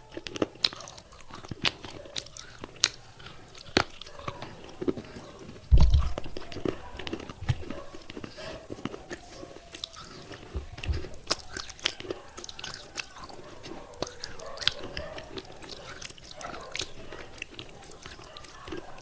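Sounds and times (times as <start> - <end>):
person chewing clay pieces: 0.0 - 19.0.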